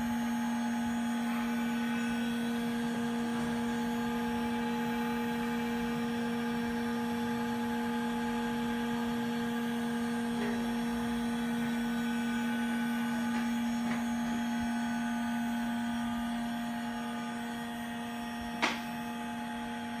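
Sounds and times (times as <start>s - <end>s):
stirrer motor whining: 0.0s - 20.0s.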